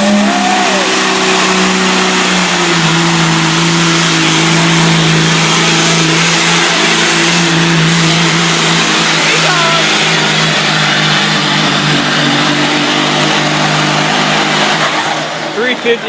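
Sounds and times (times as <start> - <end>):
truck diesel engine at high revs: 0.0 - 16.0.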